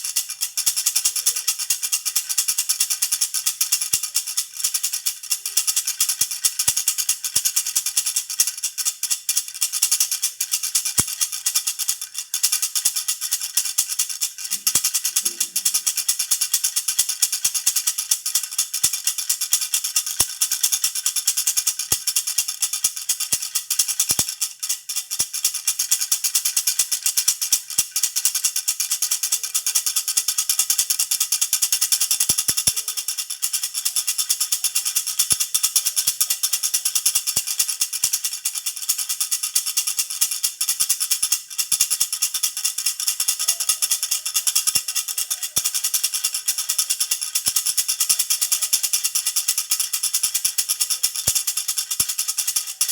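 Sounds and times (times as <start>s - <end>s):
baby rattle jingling: 0.0s - 52.9s.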